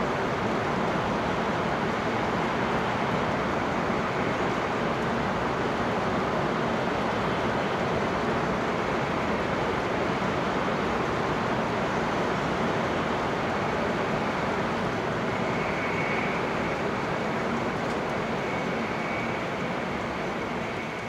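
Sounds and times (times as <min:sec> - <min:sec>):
train rumbling at speed: 0:00.0 - 0:21.0.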